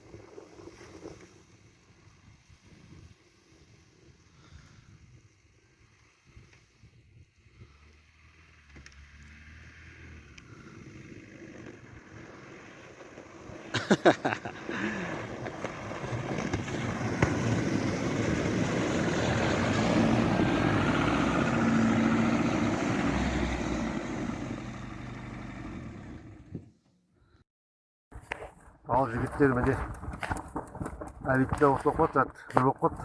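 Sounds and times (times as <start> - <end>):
car driving over snow: 0.0 - 26.8.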